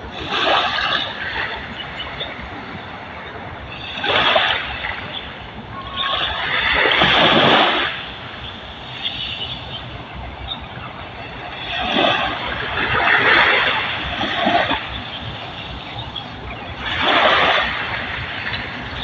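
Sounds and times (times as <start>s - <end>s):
small waves washing ashore: 0.0s - 19.0s.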